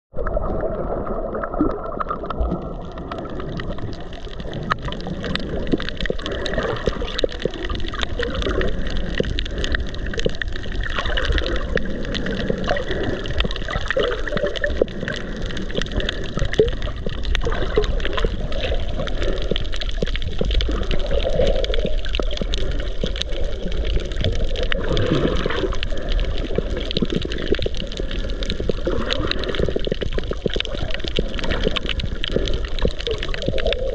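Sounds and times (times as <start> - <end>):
faint crackle: 0.1 - 33.9
seawater sloshing and gurgling: 0.1 - 33.9.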